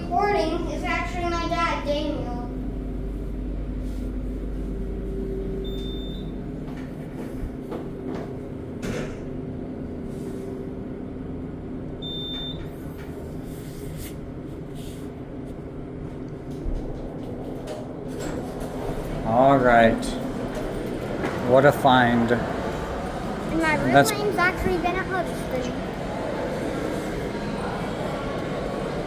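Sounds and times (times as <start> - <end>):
elevator hum and rumble: 0.0 - 29.0.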